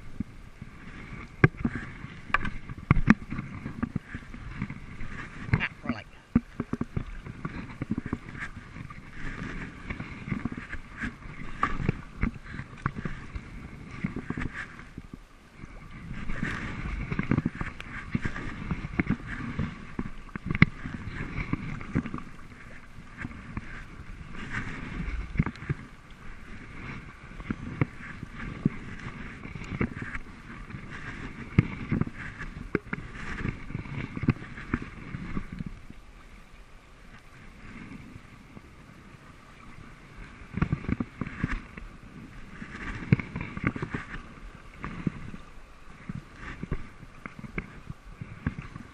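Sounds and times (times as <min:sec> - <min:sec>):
water slapping against hull: 0:00.0 - 0:36.4, 0:37.0 - 0:48.9
paddle splashing: 0:00.0 - 0:48.9.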